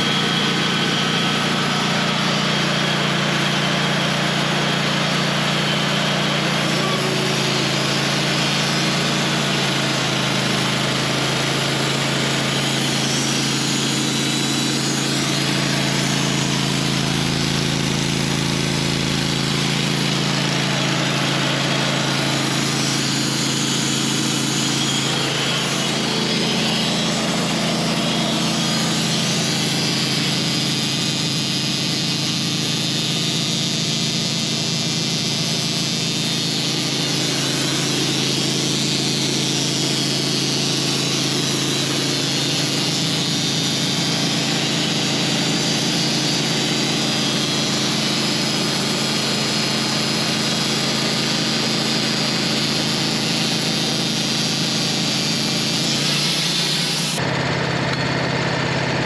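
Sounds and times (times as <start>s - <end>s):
band sawmill cutting wood: 0.0s - 59.0s.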